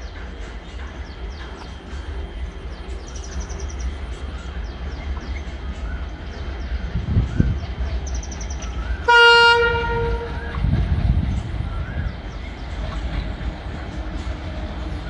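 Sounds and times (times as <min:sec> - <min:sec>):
small birds chirping: 0:00.0 - 0:09.1, 0:10.3 - 0:15.0
distant train rumbling: 0:00.0 - 0:15.0.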